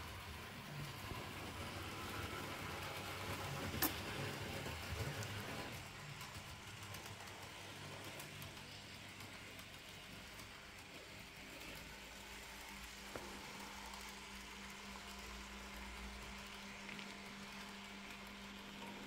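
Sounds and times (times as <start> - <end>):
model train motor hum: 0.0 - 19.0.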